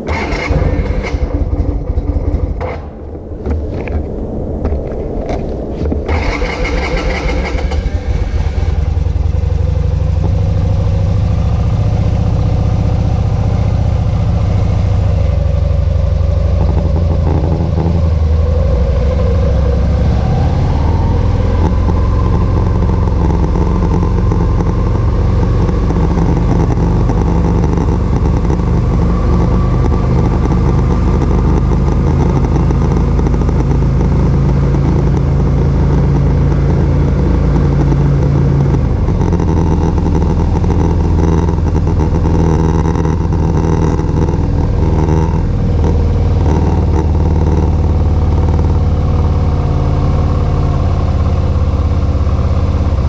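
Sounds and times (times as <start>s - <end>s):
motorcycle engine idling and revving: 0.0s - 53.0s.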